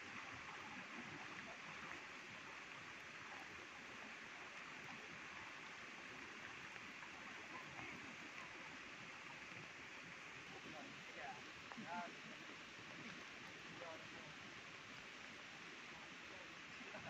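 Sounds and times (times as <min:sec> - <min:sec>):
faint rush of floodwater: 0:00.0 - 0:17.0.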